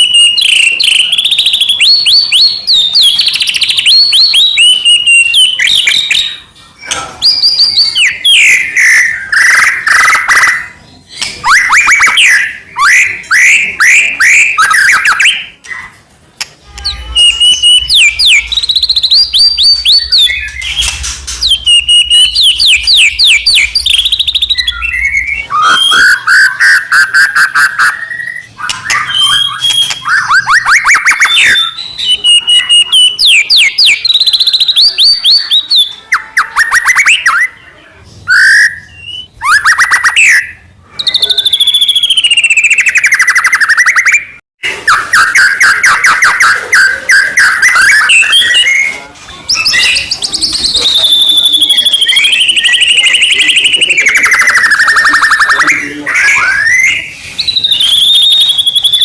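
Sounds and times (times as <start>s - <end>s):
songbird trilling and whistling: 0.0s - 15.9s, 16.8s - 37.6s, 38.3s - 59.0s.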